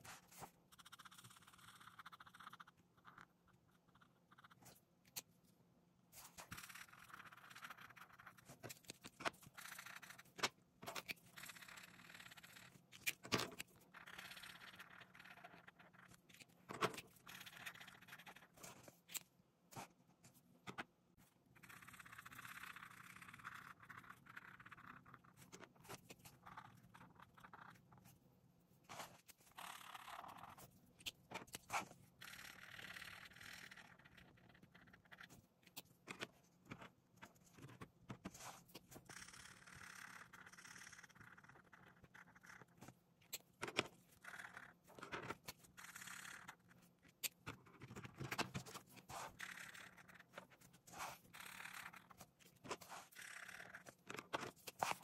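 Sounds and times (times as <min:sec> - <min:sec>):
markers scratching on paper: 0:00.0 - 0:05.2, 0:06.2 - 0:20.0, 0:21.6 - 0:28.1, 0:28.8 - 0:55.0.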